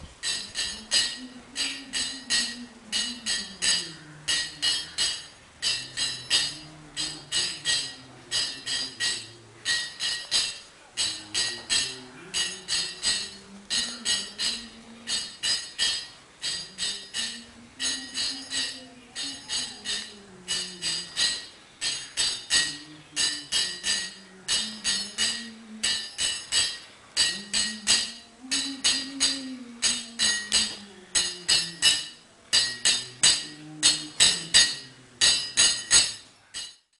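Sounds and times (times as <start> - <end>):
small hand cymbals clashing: 0.0 - 36.9
man chanting: 0.4 - 26.2, 27.2 - 36.0.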